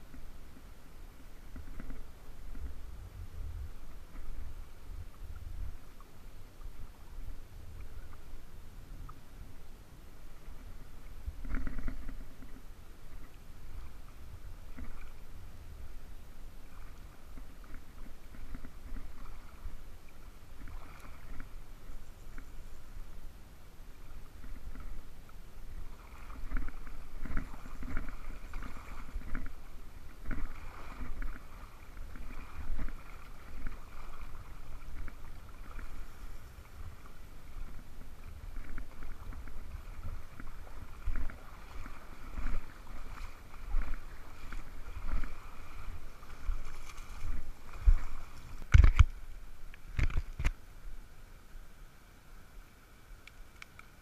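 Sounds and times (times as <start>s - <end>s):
water sloshing and splashing: 0.0s - 8.4s, 10.2s - 23.2s, 24.0s - 50.6s.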